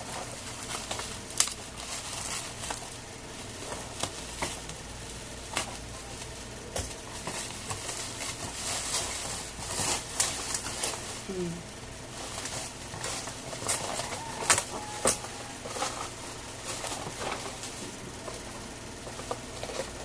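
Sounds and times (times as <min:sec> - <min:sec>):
packaging wrap rustling: 0:00.0 - 0:20.0.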